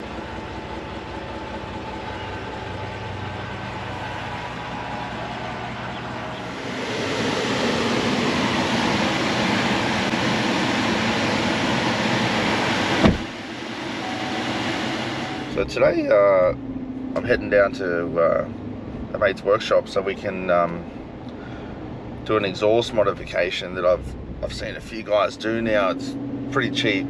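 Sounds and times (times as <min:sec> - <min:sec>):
pickup engine hum: 0:00.0 - 0:27.0
road noise: 0:00.0 - 0:27.0.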